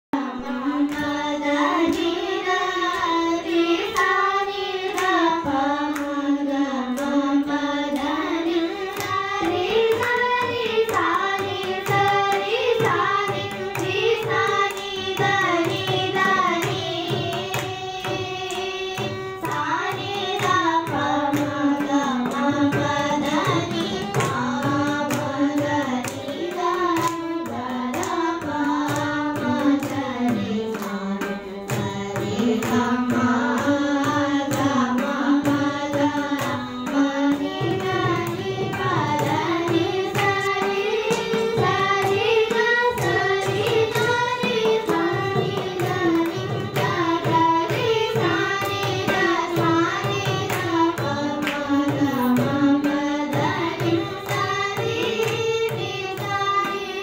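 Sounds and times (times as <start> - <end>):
girls singing in unison: 0.2 - 57.0
violin: 0.2 - 57.0.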